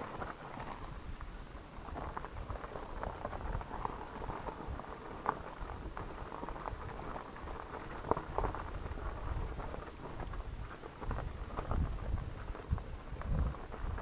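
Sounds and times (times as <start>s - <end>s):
bike rattling: 0.0s - 14.0s
bike tyres rumbling on dirt: 0.0s - 14.0s.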